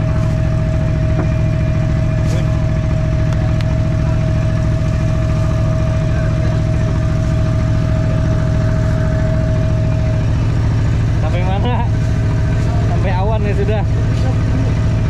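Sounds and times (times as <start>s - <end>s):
boat engine droning: 0.0s - 15.0s
steady high whine: 0.0s - 15.0s.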